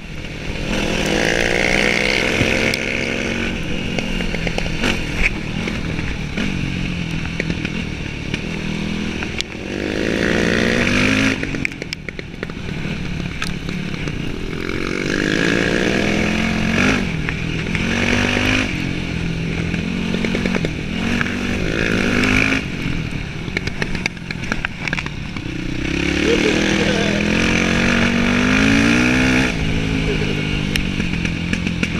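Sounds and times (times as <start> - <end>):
dirt bike engine revving: 0.3 - 11.7, 12.6 - 31.9.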